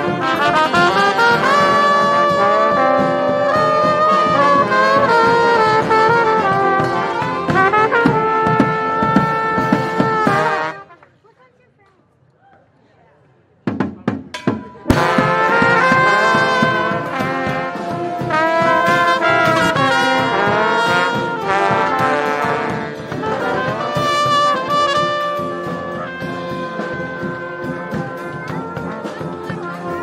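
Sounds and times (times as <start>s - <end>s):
bass drum: 0.0s - 10.8s, 13.6s - 30.0s
brass band playing: 0.0s - 11.1s, 14.4s - 30.0s.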